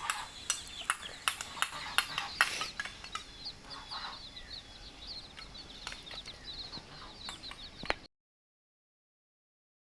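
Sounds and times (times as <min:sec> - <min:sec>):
baby chicks peeping: 0:00.0 - 0:08.1.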